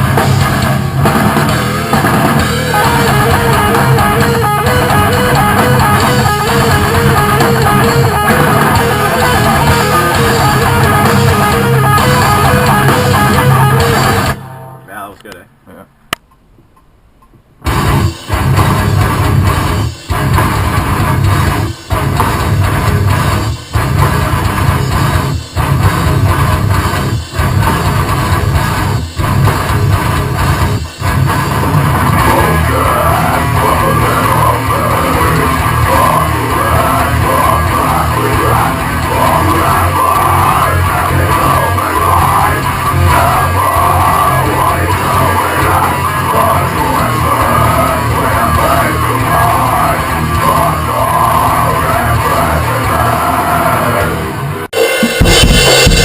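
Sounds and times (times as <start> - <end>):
heavy rock music: 0.0 - 15.1, 17.6 - 56.0.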